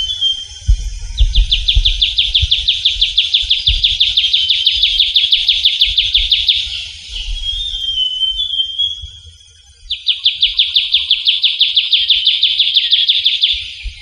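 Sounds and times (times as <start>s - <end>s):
bird trilling song: 0.0s - 14.0s.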